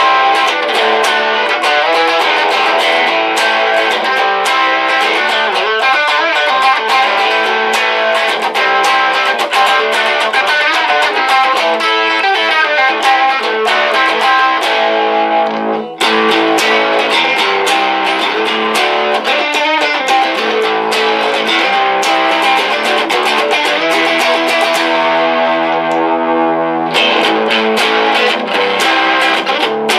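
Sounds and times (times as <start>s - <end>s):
electric guitar strummed chords: 0.0s - 29.9s.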